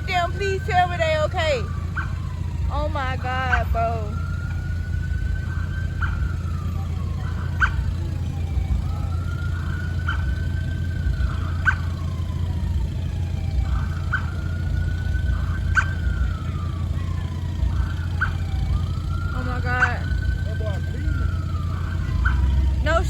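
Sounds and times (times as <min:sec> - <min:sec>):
emergency siren wailing: 0:00.0 - 0:23.0.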